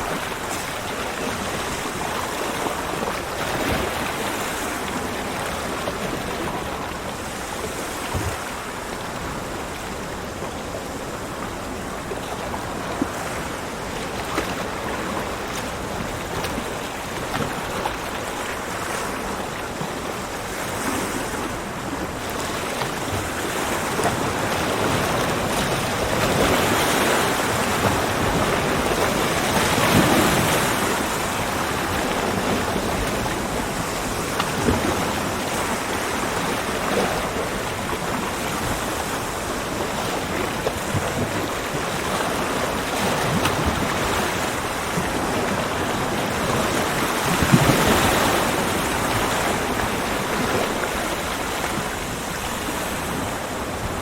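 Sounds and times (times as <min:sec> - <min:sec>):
waves breaking on a beach: 0:00.0 - 0:54.0.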